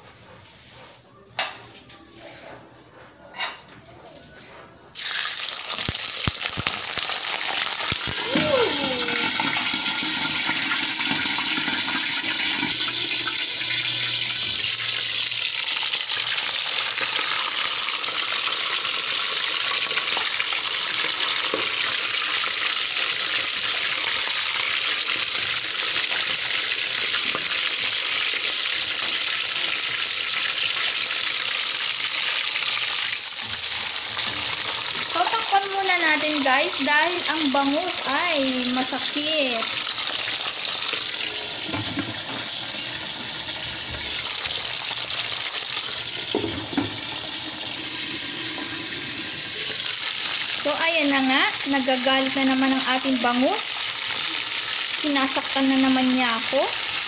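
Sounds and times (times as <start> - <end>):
fish sizzling in hot oil: 5.0 - 57.0.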